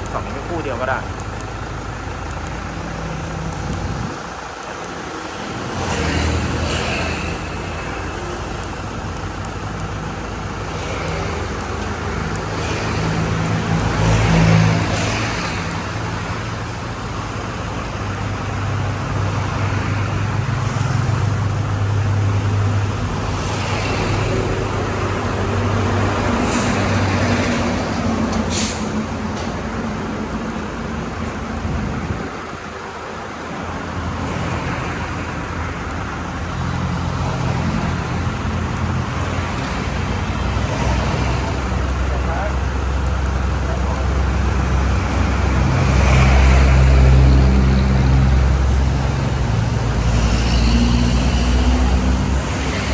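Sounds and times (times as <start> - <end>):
road traffic noise: 0.0 - 52.9
vehicle engine running: 0.0 - 52.9.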